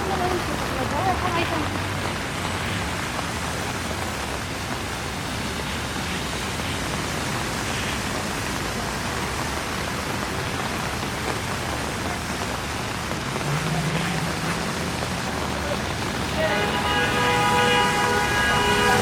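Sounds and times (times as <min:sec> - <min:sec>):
heavy rain on street: 0:00.0 - 0:19.0
low rumble of city traffic: 0:00.0 - 0:19.0.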